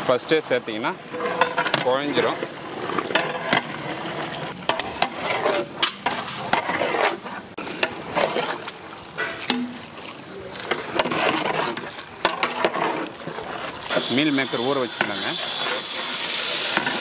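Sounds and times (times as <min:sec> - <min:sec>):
wet churning of stew: 0:00.0 - 0:17.0.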